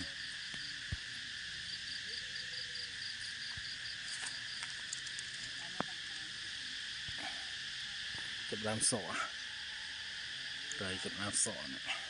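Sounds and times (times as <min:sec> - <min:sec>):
cicadas buzzing chorus: 0:00.0 - 0:12.0.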